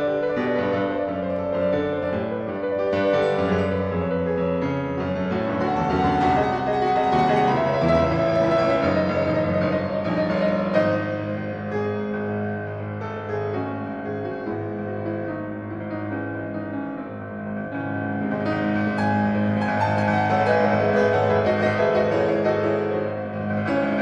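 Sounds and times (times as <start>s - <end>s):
slow piano music: 0.0s - 24.0s.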